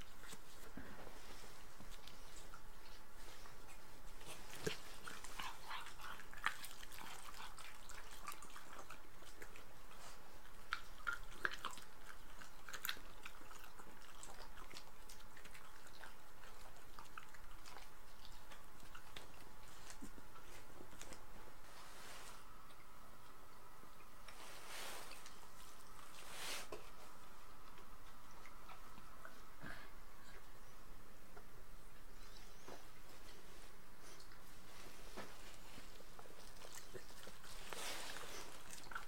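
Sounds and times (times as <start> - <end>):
dogs chewing: 0.0 - 30.6, 31.3 - 39.0.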